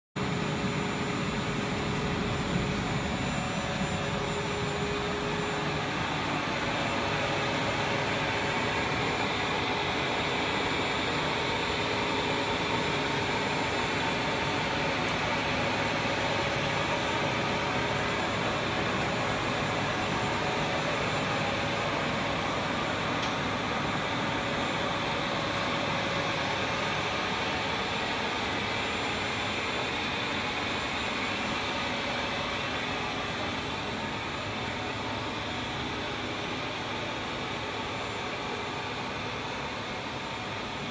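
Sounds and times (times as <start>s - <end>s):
extrusion line roaring: 0.2s - 36.8s.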